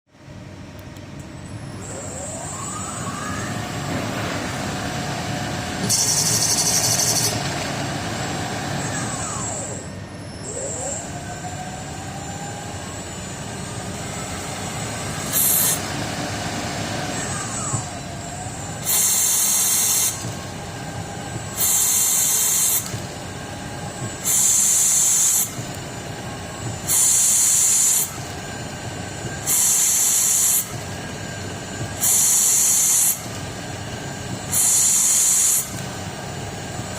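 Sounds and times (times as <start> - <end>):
lathe spindle motor whine: 1.4 - 36.9.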